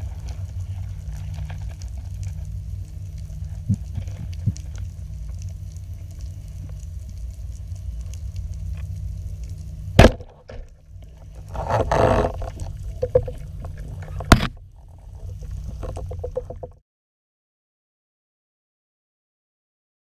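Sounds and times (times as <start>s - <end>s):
faint crackling ticks: 0.0s - 10.0s, 10.6s - 16.8s
underwater rush of water: 0.0s - 16.8s.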